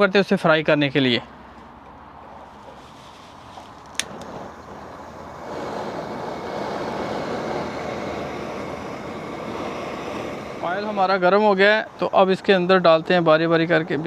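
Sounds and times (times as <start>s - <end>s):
gas flame roar: 1.4s - 14.0s.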